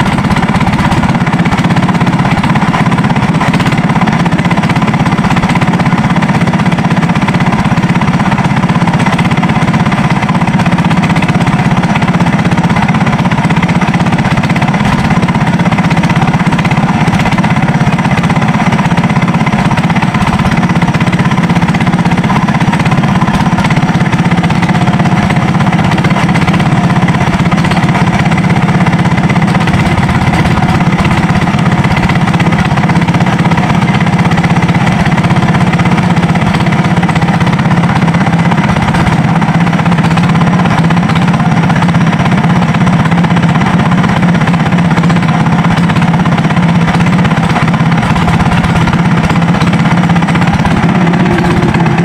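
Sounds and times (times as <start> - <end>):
boat engine running loudly: 0.0 - 52.0.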